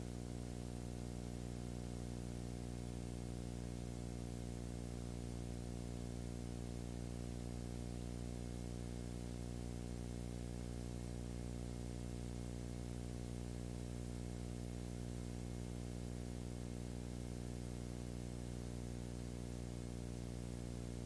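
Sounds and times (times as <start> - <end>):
buzzing electrical hum: 0.0 - 21.0.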